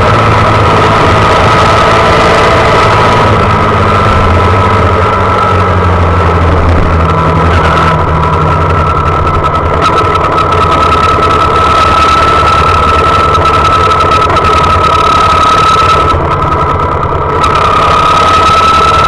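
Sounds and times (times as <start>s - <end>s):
small motorbike engine running: 0.0s - 19.0s.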